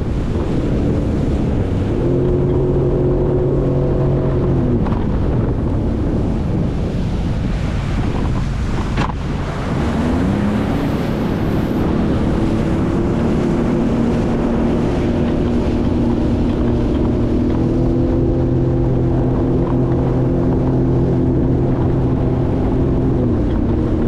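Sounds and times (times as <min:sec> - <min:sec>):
jet ski engine: 0:00.0 - 0:24.0
wind buffeting microphone: 0:00.0 - 0:24.0.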